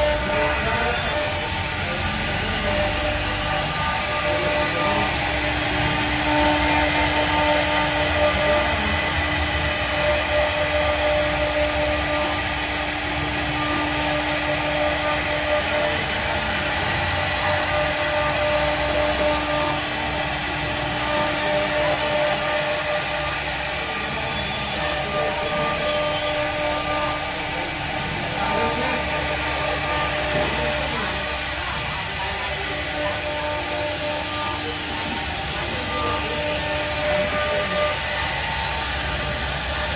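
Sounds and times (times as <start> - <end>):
cnc router spindle whine: 0.0 - 39.9.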